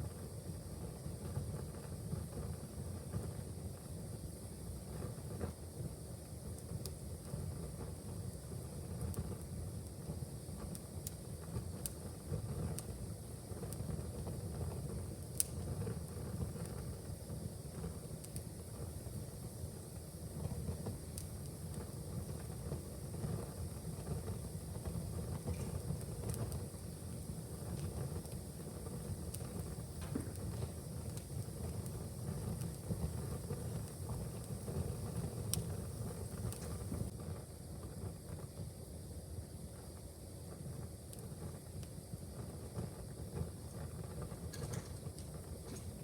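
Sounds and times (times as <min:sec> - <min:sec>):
fire crackles and pops: 0:00.0 - 0:46.0
fire rumbling: 0:00.0 - 0:46.0.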